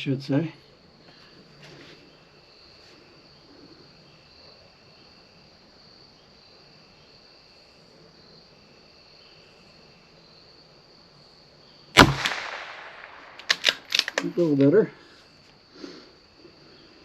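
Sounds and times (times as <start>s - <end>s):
high cricket trill: 0.0s - 17.0s
lower cricket trill: 0.0s - 17.0s.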